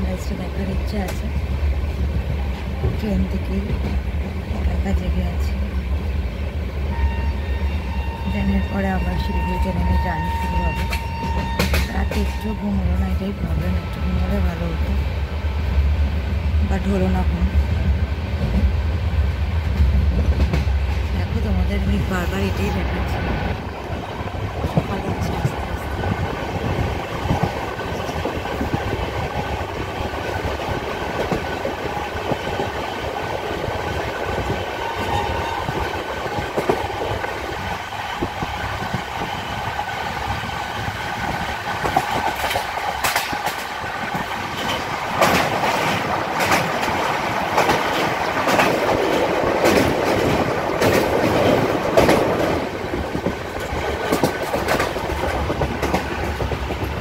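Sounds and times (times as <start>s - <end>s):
train wheels clickety-clack: 0.0s - 5.8s, 8.4s - 15.0s, 16.7s - 57.0s
train rumble and hum: 0.0s - 57.0s.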